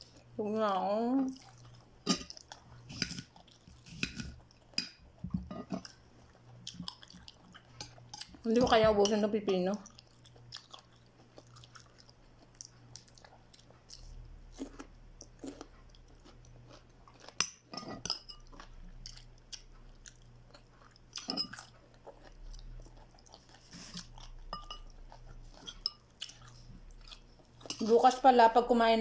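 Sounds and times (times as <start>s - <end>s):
chewing crunchy cucumber: 1.2s - 8.5s, 9.8s - 28.0s.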